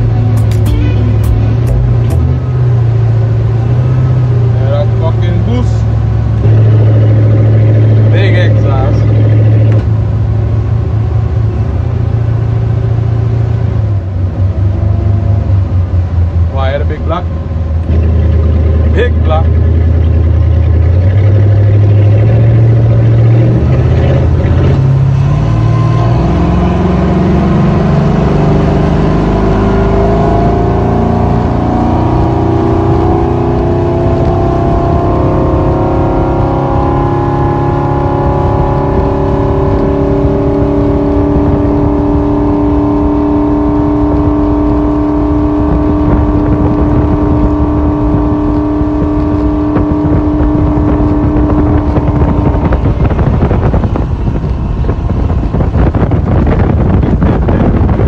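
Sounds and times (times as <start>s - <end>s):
motorboat engine speeding up: 0.0s - 16.4s, 17.1s - 58.0s.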